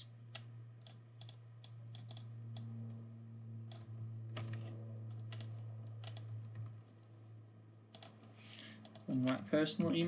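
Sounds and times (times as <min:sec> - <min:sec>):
steady low hum: 0:00.0 - 0:10.0
keyboard and mouse clicking: 0:00.3 - 0:03.0, 0:03.7 - 0:07.2, 0:07.9 - 0:09.9.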